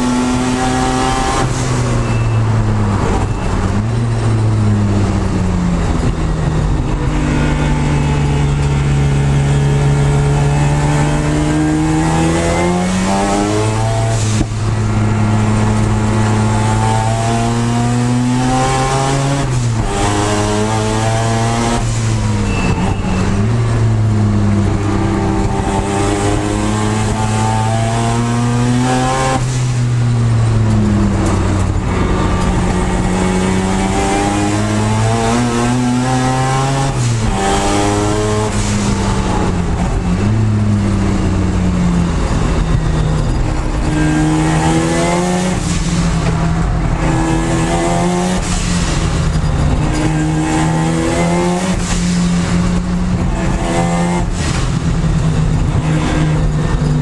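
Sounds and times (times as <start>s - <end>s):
rotary engine at full throttle: 0.0s - 57.0s
wind and road noise: 0.0s - 57.0s.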